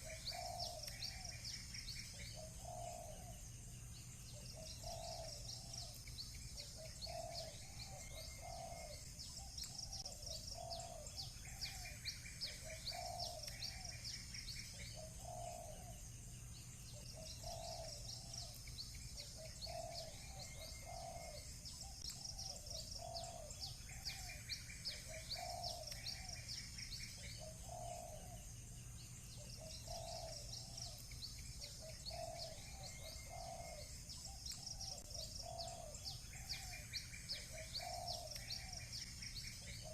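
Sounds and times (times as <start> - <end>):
doves cooing: 0.0 - 3.5, 4.3 - 16.1, 16.9 - 28.5, 29.4 - 39.9
rapid bird trills: 0.0 - 39.9
small birds chirping: 0.0 - 39.9.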